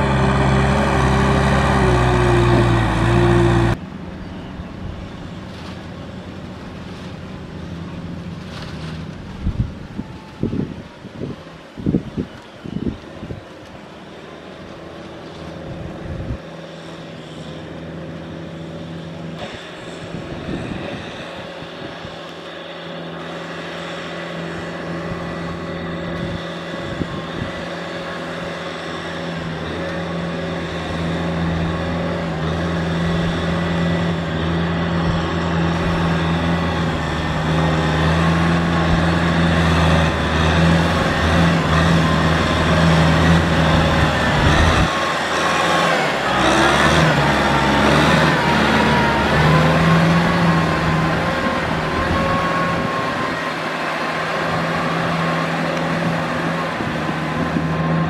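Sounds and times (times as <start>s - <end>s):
tractor diesel engine running: 0.0s - 11.1s, 13.4s - 58.0s.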